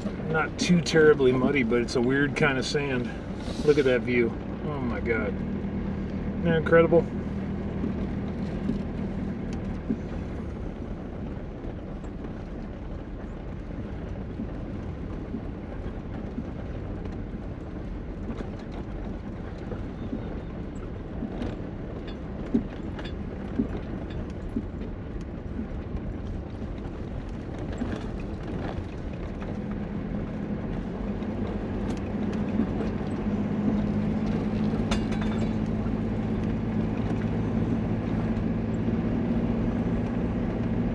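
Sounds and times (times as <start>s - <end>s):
vehicle engine hum: 0.0s - 40.9s
vehicle rattles and knocks: 0.0s - 40.9s.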